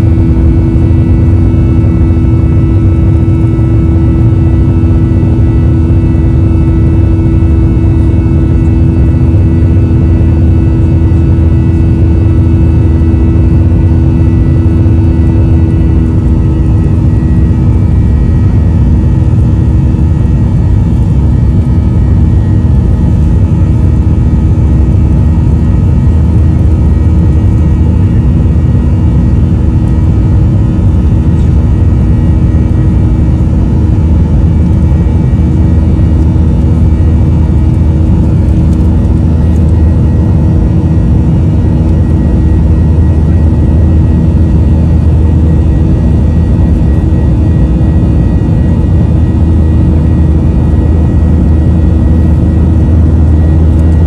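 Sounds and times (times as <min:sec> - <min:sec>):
airliner cabin engine rumble: 0:00.0 - 0:54.0
steady humming tones: 0:00.0 - 0:54.0.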